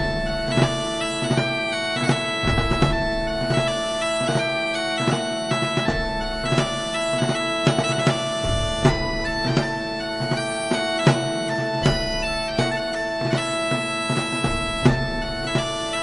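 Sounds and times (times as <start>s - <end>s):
bagpipes playing a melody: 0.0s - 16.0s.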